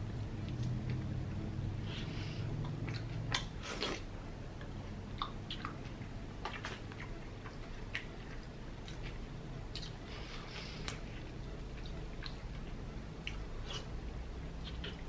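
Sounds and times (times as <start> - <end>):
person chewing: 1.8 - 14.0, 14.6 - 15.0.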